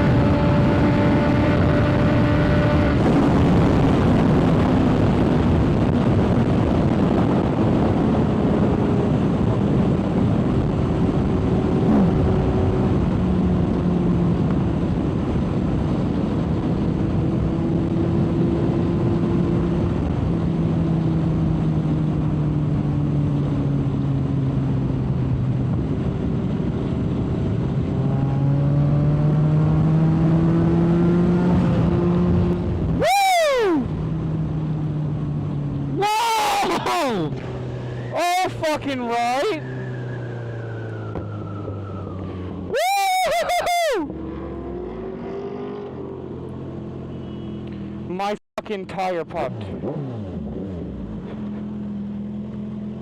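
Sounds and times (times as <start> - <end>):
wind rush on microphone: 0.0 - 46.4.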